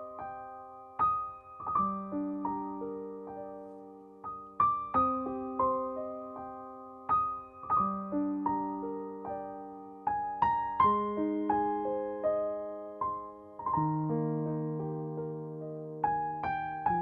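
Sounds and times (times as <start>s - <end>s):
slow gentle piano music: 0.0s - 17.0s.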